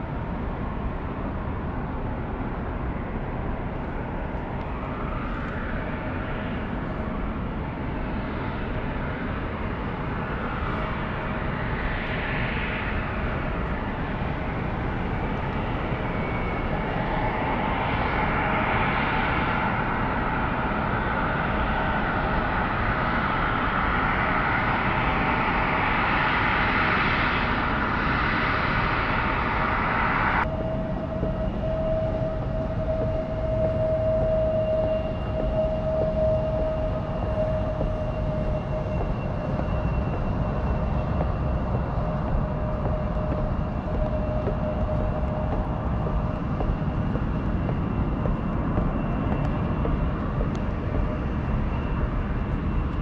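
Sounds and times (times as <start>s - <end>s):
engine whine: 0.0s - 53.0s.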